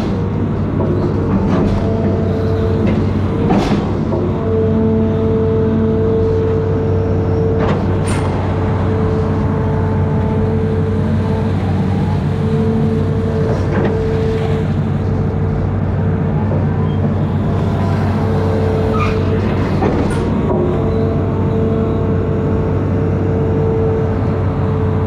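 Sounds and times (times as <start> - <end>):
excavator engine running: 0.0 - 25.0.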